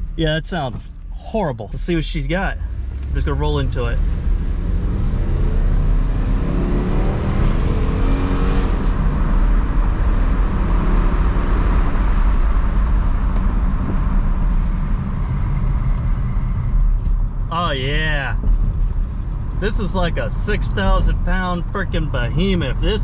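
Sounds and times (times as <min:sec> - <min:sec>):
road noise: 0:00.0 - 0:23.0
truck engine accelerating: 0:00.0 - 0:23.0.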